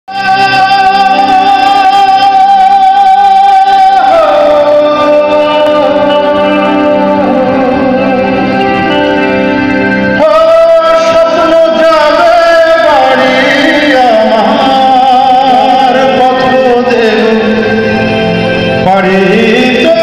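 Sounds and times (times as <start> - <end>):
live band playing: 0.1 - 20.0
person singing: 0.1 - 20.0.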